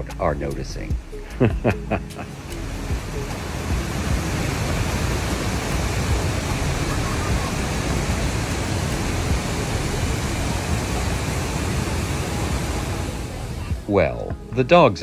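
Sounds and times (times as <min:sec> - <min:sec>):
waterfall roaring: 0:01.1 - 0:14.1.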